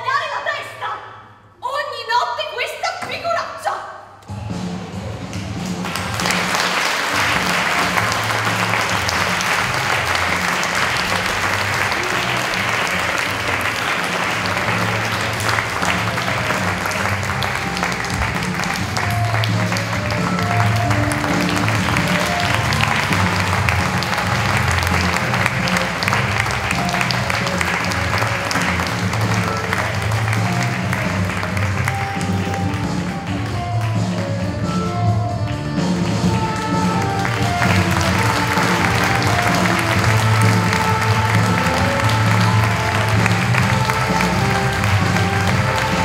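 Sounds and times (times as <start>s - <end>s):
music with bass line: 4.3s - 46.0s
audience applauding: 5.3s - 34.6s, 35.8s - 46.0s.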